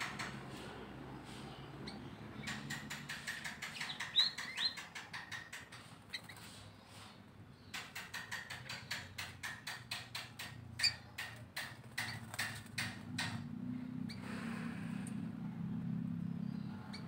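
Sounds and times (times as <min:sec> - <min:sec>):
birds sharp ticking: 0:00.0 - 0:17.0.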